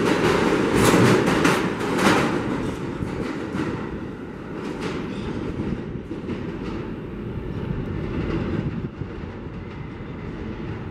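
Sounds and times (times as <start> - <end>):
subway train rumbling: 0.0 - 10.9.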